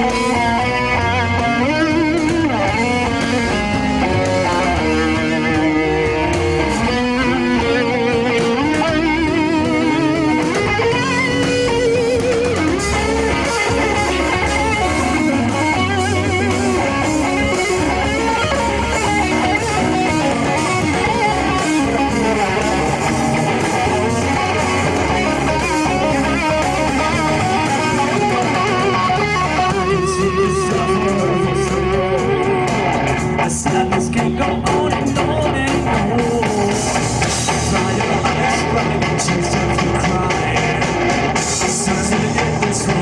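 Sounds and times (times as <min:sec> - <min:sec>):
lead electric guitar: 0:00.0 - 0:43.0
rock band playing live: 0:00.0 - 0:43.0.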